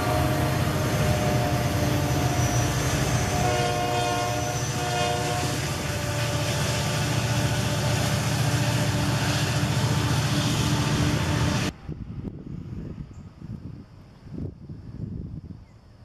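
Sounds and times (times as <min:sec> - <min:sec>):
freight train wheels rumbling on rail: 0:00.0 - 0:14.9.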